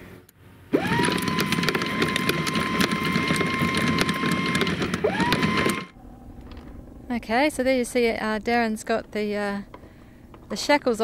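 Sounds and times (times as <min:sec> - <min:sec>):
windlass motor whine: 0:00.0 - 0:10.8.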